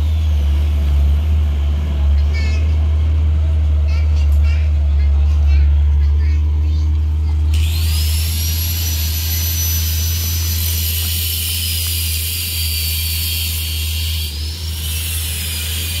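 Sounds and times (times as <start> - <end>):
diesel truck engine rumbling: 0.0 - 16.0.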